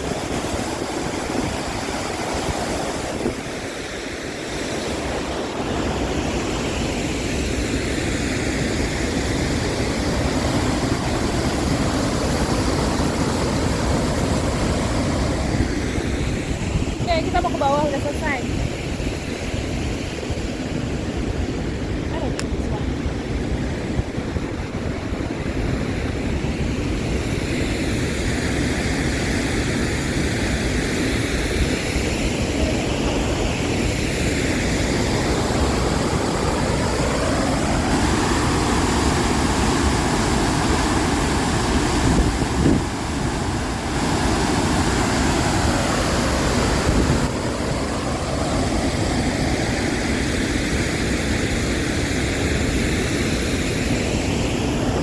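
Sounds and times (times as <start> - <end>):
waterfall roaring: 0.0 - 18.4, 24.3 - 55.0.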